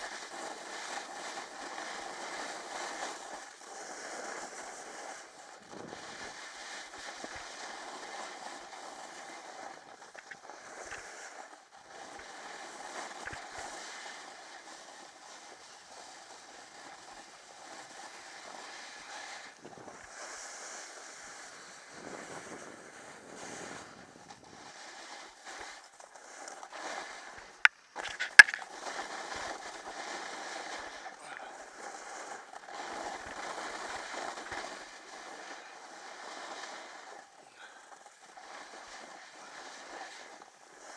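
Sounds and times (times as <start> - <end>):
snowboard scraping over snow: 0.0 - 40.9.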